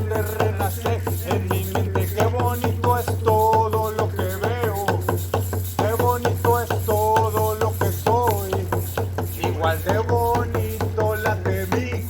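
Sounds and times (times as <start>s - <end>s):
hand drum beating: 0.0s - 12.0s.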